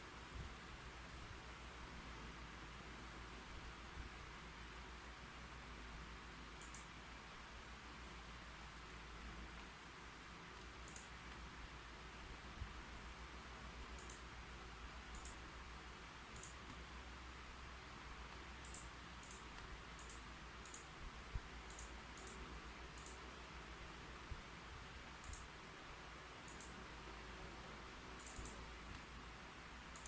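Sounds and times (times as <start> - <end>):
steady low hiss: 0.0 - 30.0.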